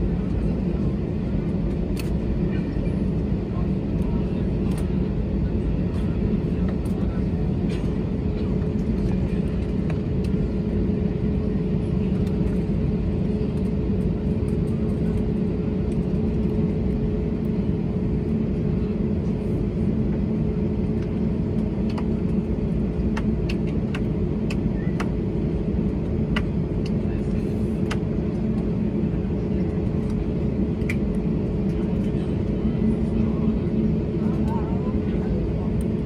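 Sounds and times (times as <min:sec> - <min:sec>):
aircraft cabin rumble: 0:00.0 - 0:36.0.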